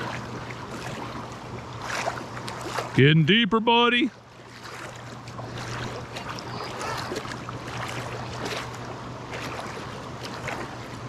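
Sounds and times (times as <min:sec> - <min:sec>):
rushing river water: 0:00.0 - 0:11.0
water sloshing from wading: 0:00.0 - 0:11.0.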